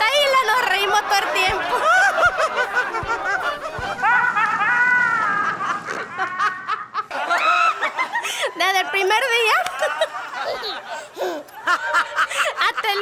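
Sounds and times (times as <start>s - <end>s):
people laughing heartily: 0.4s - 13.0s.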